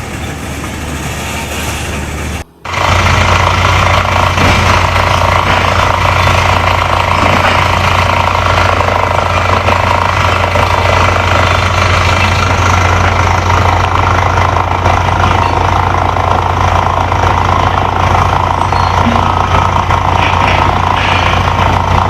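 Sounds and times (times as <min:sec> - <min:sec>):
heavy machinery humming: 0:00.0 - 0:22.0.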